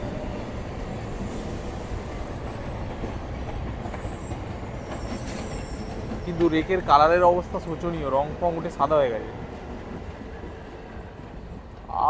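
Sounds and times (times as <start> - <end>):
passing train: 0.0 - 12.0
train wheels on rail: 0.0 - 12.0.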